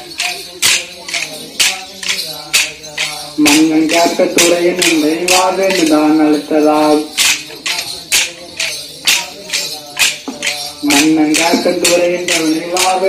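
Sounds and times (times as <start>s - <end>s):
person singing folk song: 0.0s - 13.0s
wooden sticks clacking: 0.0s - 13.0s.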